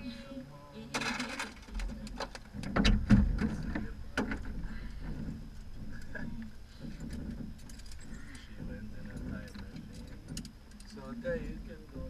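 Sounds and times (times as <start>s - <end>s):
sharp clicks and knocks: 1.0s - 11.0s.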